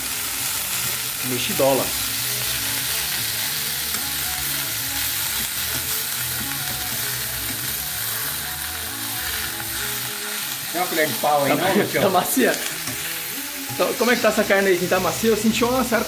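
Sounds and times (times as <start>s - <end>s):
meat sizzling in a pot: 0.0s - 16.0s.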